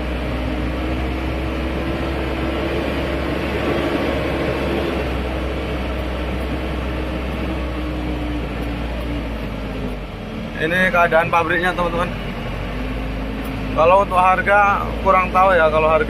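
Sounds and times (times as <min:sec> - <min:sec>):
diesel truck engine running: 0:00.0 - 0:16.0
road noise: 0:00.0 - 0:16.0.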